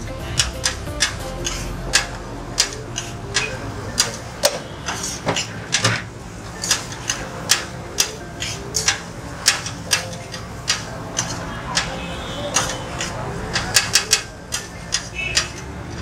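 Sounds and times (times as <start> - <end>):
spatula and knife clanking on griddle: 0.3 - 16.0.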